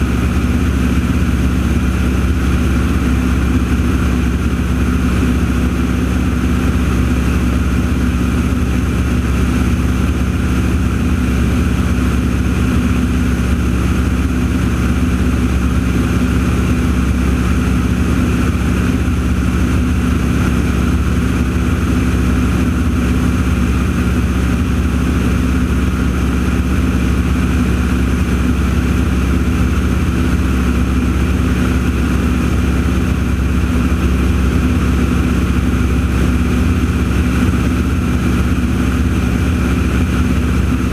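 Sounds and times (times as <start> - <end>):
steady engine drone: 0.0 - 40.9.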